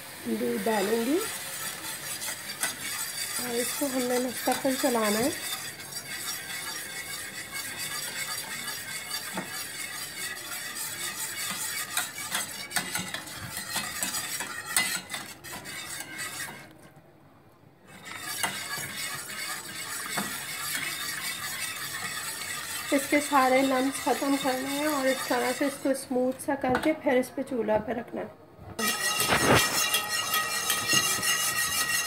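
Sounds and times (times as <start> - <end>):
whisk scraping metal pan: 0.0 - 17.0, 17.9 - 26.4, 28.8 - 32.0.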